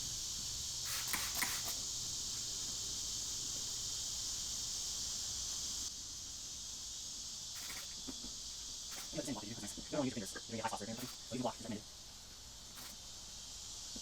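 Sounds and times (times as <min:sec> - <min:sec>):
shrill insect chorus: 0:00.0 - 0:14.0.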